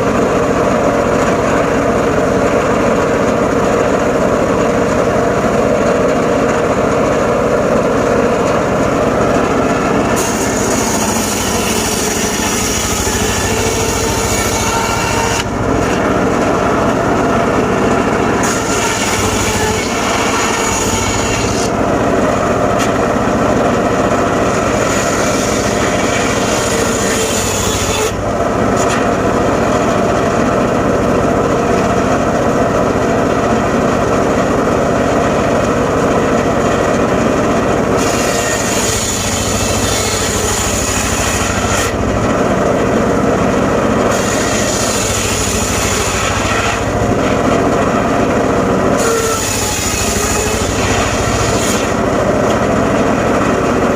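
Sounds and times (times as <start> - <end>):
circular saw cutting log: 0.0 - 53.9.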